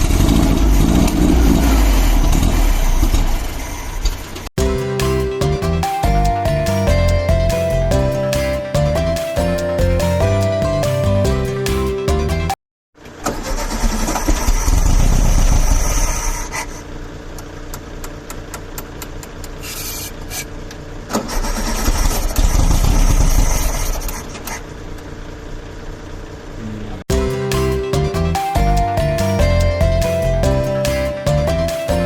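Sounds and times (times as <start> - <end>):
car engine starting and running: 0.0 - 32.0.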